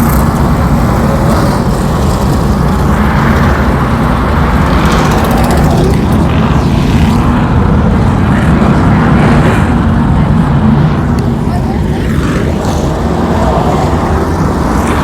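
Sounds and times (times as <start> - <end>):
race car engines roaring: 0.0 - 15.0.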